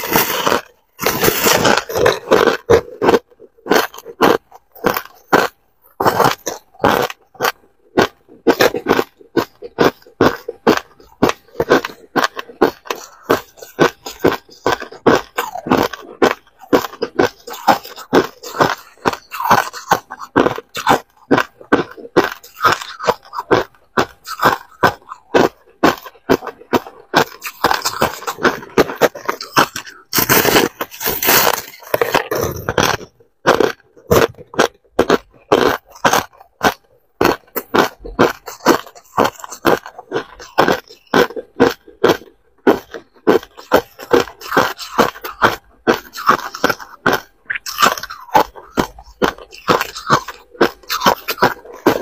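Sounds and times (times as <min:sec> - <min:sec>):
ice crunching when chewed: 0:00.0 - 0:52.0.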